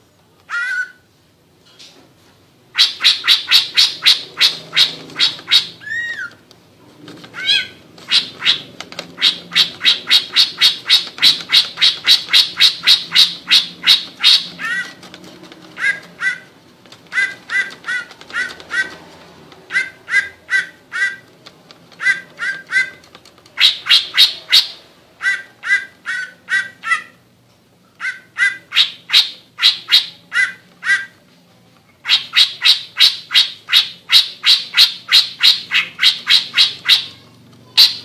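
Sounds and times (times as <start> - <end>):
bird calling sharp repeated notes: 2.7 - 6.4, 7.3 - 15.1, 15.7 - 21.3, 21.9 - 27.2, 28.0 - 31.2, 32.0 - 38.0.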